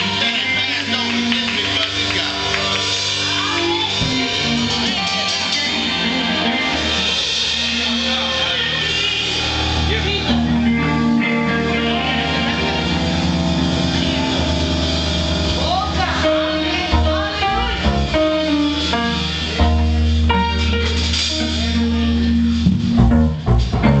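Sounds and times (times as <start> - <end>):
guitar melodic lines: 0.0 - 24.0
sustained bass notes: 0.0 - 24.0
worship band music: 0.0 - 24.0.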